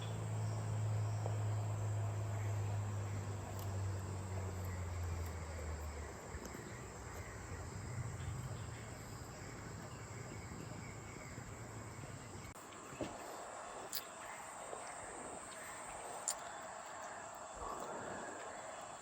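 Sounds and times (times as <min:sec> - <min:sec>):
insects droning: 0:00.0 - 0:19.0
low hum: 0:00.0 - 0:19.0.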